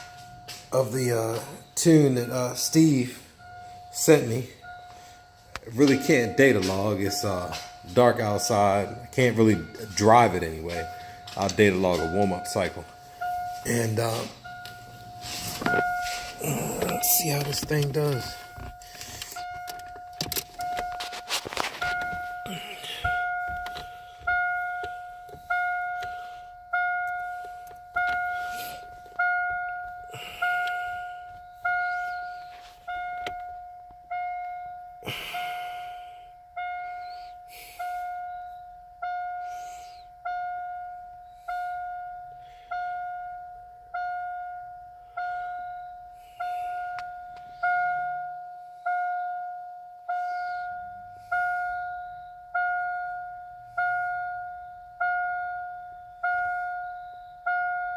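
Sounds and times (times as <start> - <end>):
car warning chime dinging: 0.0 - 57.9.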